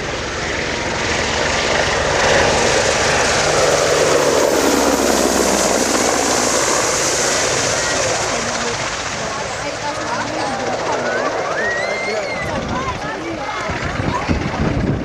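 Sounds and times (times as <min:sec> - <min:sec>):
helicopter engines and rotors: 0:00.0 - 0:15.0.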